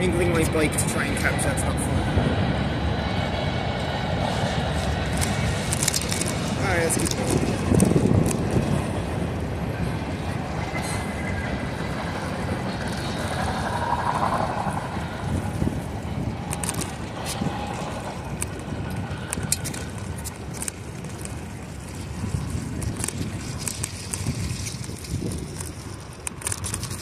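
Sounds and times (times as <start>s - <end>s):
wind on microphone: 0.0s - 27.0s
bicycle tyres on wet pavement: 4.1s - 27.0s.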